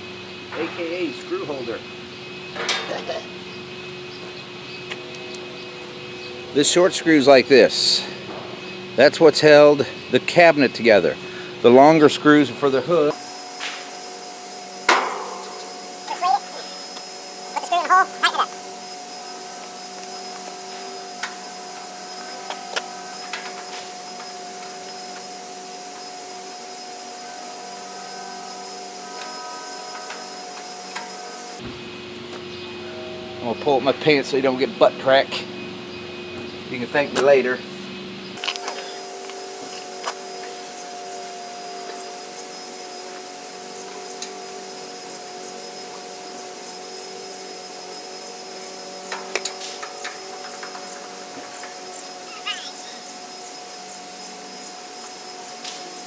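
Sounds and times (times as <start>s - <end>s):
steady humming drone: 0.0s - 56.0s.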